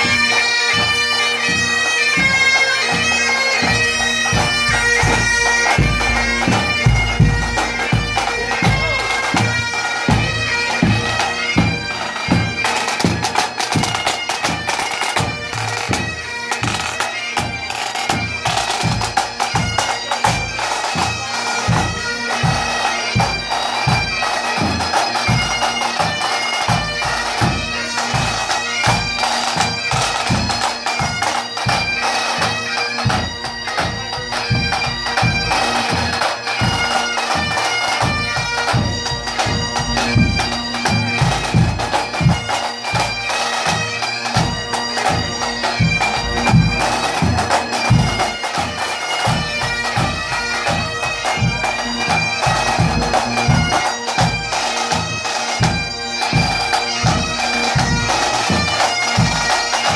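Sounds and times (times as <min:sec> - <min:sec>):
bagpipes playing melody: 0:00.0 - 0:59.9.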